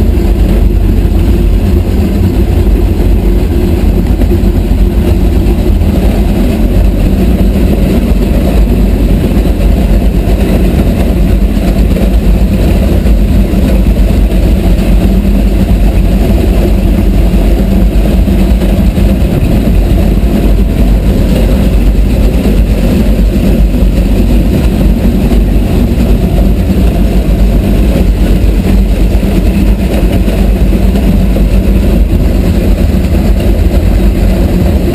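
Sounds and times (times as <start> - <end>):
boat engines running: 0.0 - 34.9.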